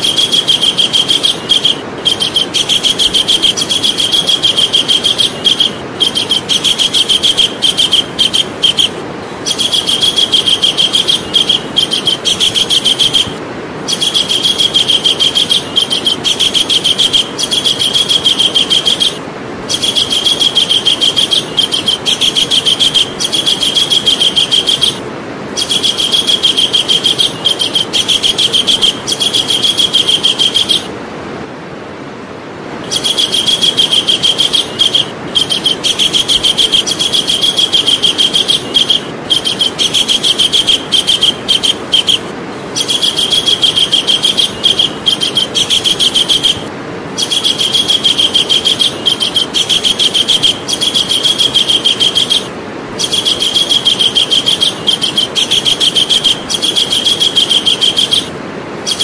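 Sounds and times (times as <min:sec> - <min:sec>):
kingfisher chattering calls: 0:00.0 - 0:30.9, 0:32.8 - 0:59.0
steady hiss: 0:00.0 - 0:59.0.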